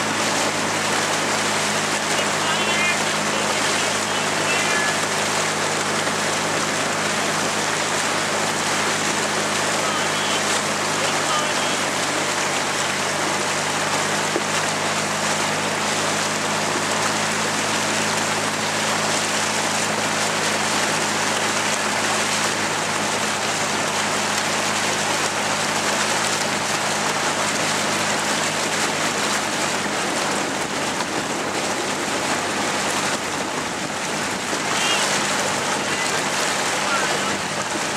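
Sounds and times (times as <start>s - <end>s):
paddles splashing: 0.0s - 37.9s
water rushing past hull: 0.0s - 37.9s.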